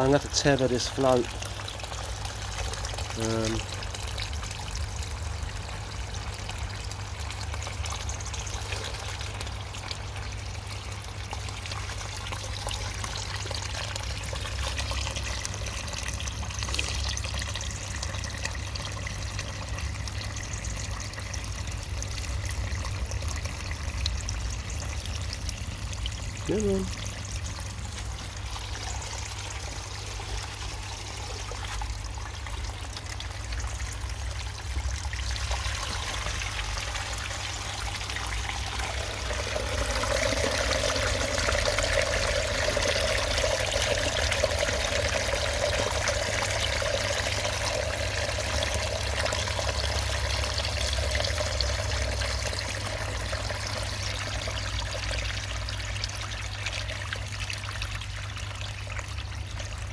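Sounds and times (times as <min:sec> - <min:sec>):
water pouring: 0:00.0 - 0:59.9.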